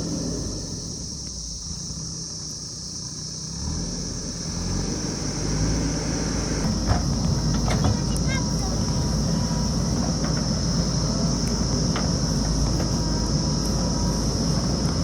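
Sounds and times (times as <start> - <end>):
diesel engine running: 0.0 - 15.0
steady high hiss: 0.0 - 15.0.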